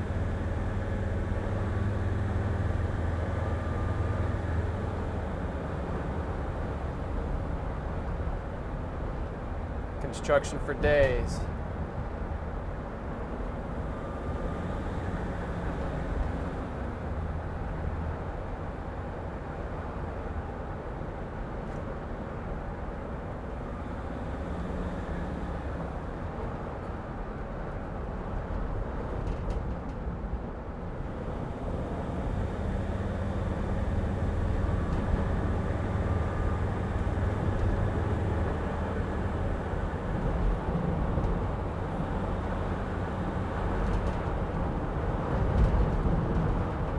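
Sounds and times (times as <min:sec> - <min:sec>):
van engine and road rumble: 0:00.0 - 0:46.9.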